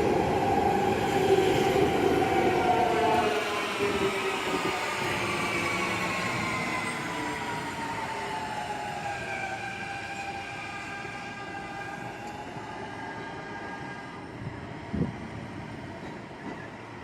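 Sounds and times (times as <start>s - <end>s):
subway train motors whining: 0.0s - 17.0s.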